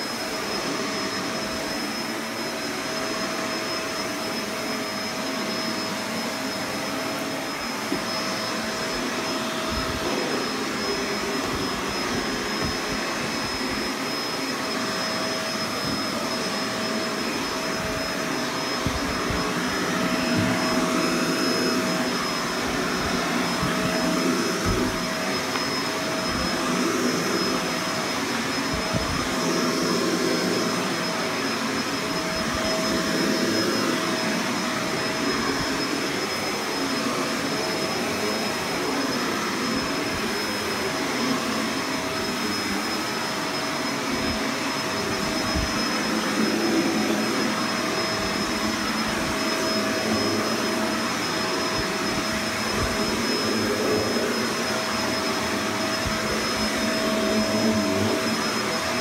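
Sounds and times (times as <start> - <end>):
vacuum cleaner motor whine: 0.0 - 59.0.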